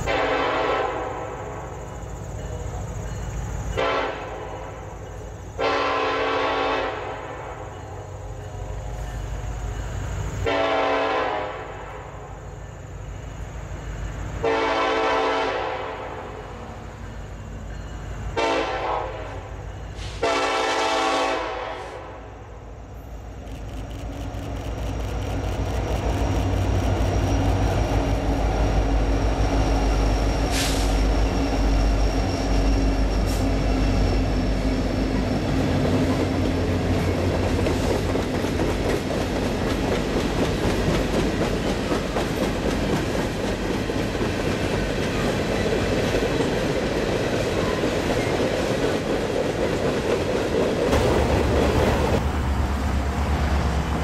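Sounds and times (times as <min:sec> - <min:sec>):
diesel locomotive engines: 0:00.0 - 0:54.0
rail and wheel clatter: 0:00.0 - 0:54.0.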